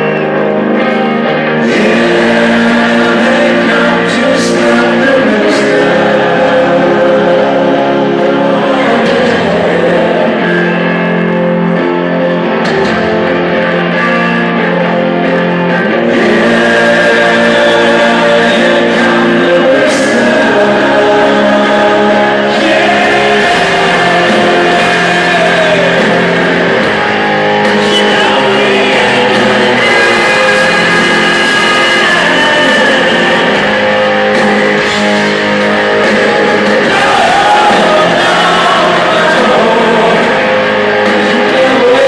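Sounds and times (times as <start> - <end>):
electric guitars: 0.0 - 42.0
person singing: 0.9 - 11.6, 15.7 - 42.0.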